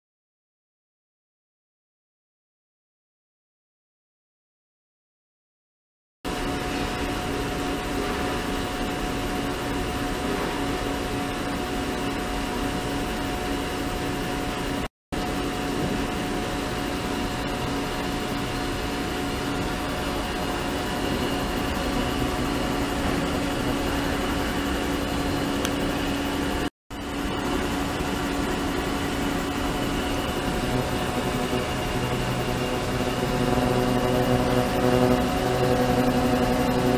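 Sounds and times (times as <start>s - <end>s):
steady tones: 6.3s - 36.9s
ultrasonic cleaner hissing hum: 6.3s - 36.9s.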